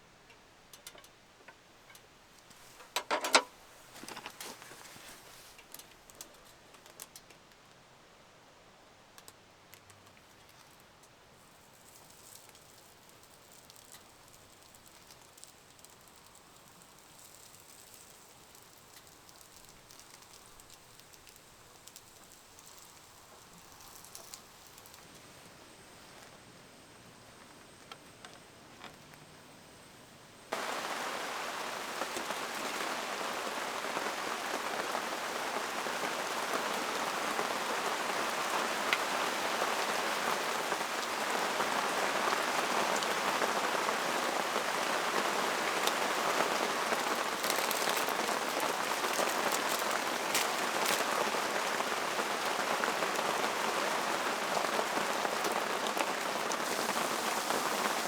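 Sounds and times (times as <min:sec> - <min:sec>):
rain falling on a surface: 0:00.1 - 0:29.3, 0:30.4 - 0:58.0.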